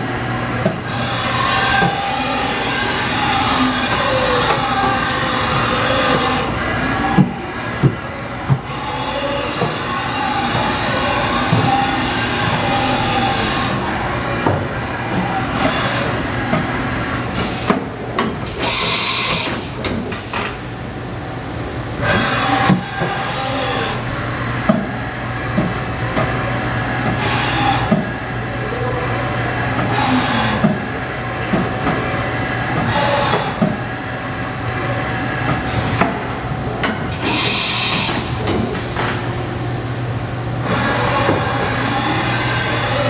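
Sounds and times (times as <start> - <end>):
industrial machinery humming: 0.0 - 43.0.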